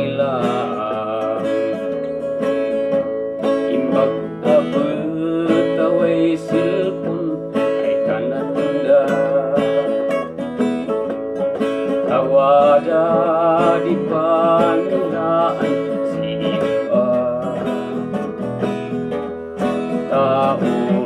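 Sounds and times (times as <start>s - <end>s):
acoustic guitars strumming: 0.0s - 21.0s.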